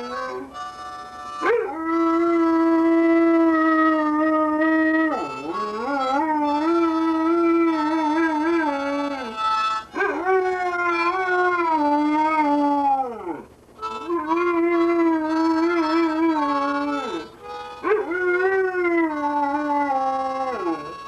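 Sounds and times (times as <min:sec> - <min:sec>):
harmonica notes: 0:00.0 - 0:21.0
dog howling: 0:01.4 - 0:21.0.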